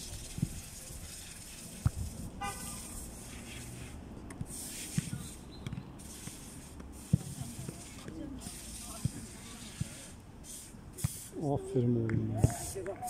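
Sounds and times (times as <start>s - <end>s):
steady hiss: 0.0s - 5.4s, 6.0s - 11.6s.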